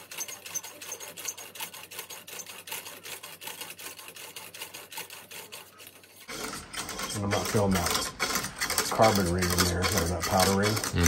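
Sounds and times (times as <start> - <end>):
bore brush scraping in rifle barrel: 0.0 - 11.0.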